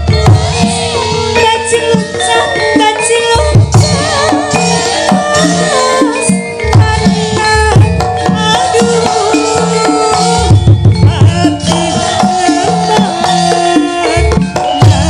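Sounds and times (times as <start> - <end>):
metallophone tones: 0.0 - 15.0
woman singing into a microphone: 0.0 - 15.0.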